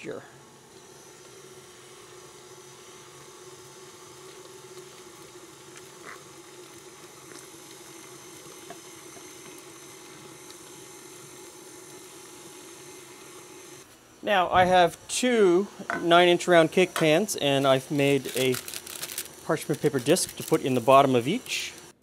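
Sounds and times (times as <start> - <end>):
stand mixer motor hum: 0.0 - 13.9, 15.5 - 22.0.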